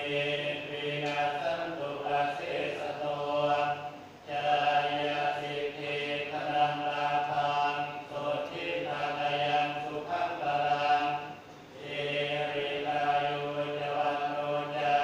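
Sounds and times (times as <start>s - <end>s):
group chanting in unison: 0.0s - 15.0s.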